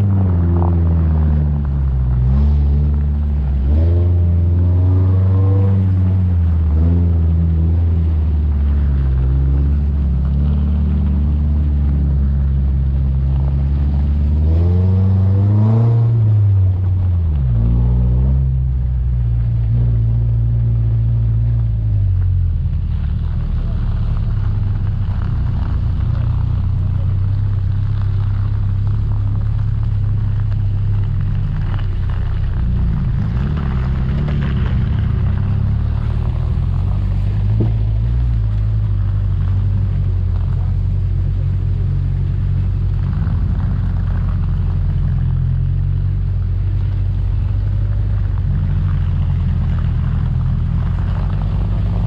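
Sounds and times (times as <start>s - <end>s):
engine running at low revs: 0.0s - 52.0s.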